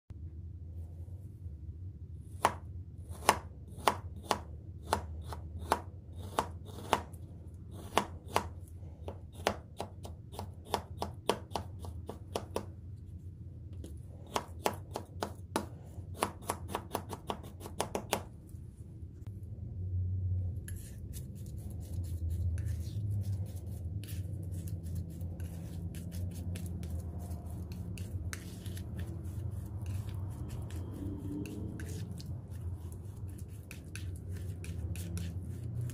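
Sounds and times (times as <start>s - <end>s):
knife scraping and squishing paint: 2.2s - 13.1s, 13.8s - 18.3s, 20.6s - 35.9s.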